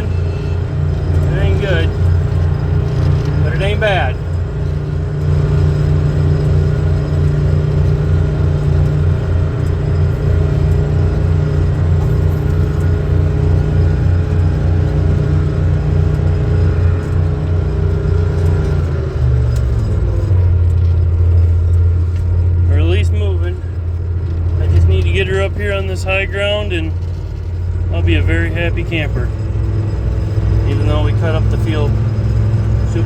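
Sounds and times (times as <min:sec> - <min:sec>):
tractor engine under heavy load: 0:00.0 - 0:33.0.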